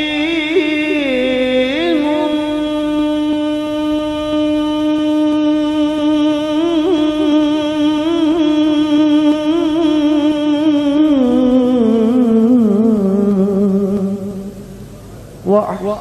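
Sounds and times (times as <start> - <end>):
man singing unaccompanied: 0.0 - 14.5.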